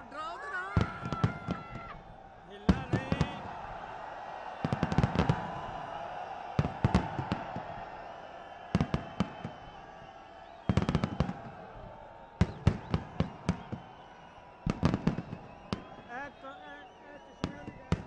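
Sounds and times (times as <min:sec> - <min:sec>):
fireworks exploding: 0:00.7 - 0:16.6, 0:17.2 - 0:18.0.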